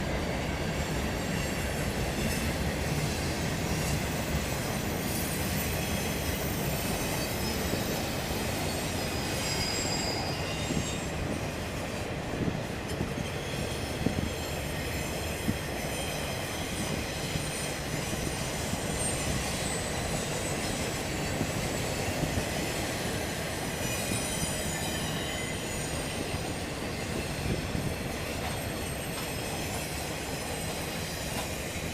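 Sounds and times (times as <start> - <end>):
freight train rumbling: 0.0 - 31.9
high wheel squeal: 1.2 - 11.4, 13.1 - 31.9.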